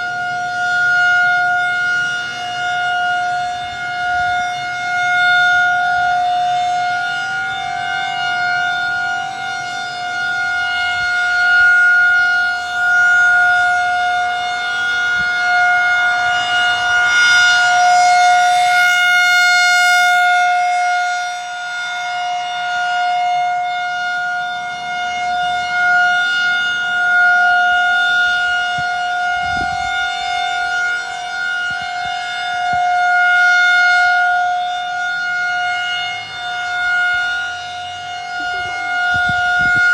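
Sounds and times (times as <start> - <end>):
warning siren steady pitch: 0.0 - 39.9.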